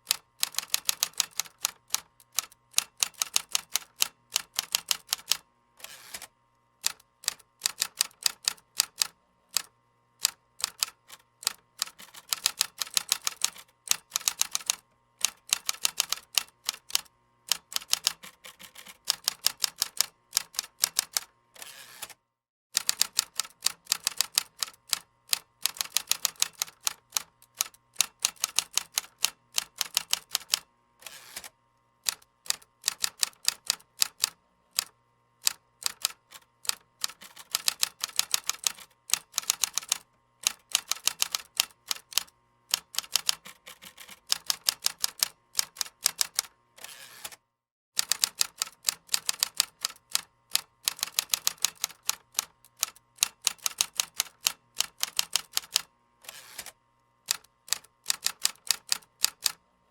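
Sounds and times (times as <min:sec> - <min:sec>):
computer keyboard typing: 0:00.1 - 0:05.4, 0:06.8 - 0:21.3, 0:22.8 - 0:30.6, 0:32.1 - 0:46.5, 0:48.0 - 0:55.9, 0:56.6 - 0:59.6.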